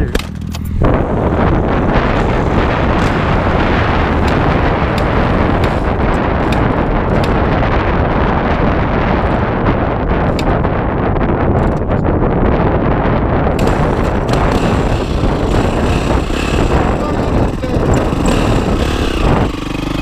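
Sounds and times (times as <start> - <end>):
dirt bike engine: 0.0 - 12.0, 13.3 - 20.0
wind buffeting microphone: 0.0 - 20.0.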